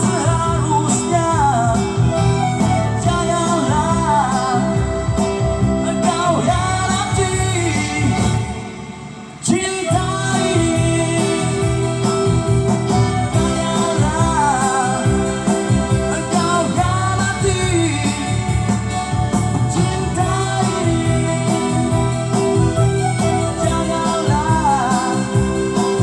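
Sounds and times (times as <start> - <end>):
instrumental accompaniment: 0.0 - 26.0
man singing: 0.0 - 26.0.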